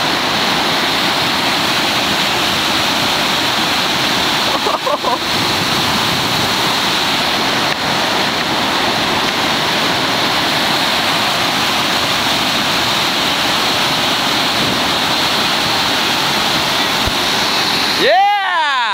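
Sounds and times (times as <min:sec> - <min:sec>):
rapids rushing: 0:00.0 - 0:18.9.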